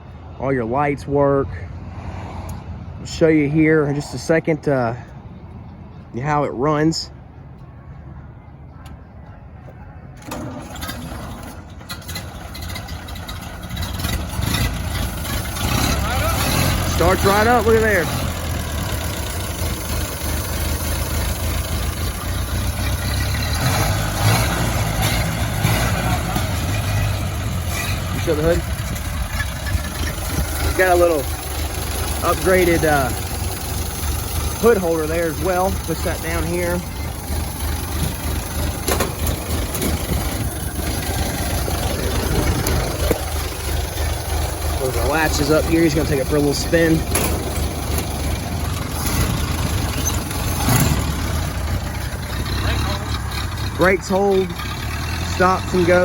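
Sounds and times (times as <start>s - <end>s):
truck engine idling: 8.7s - 56.0s.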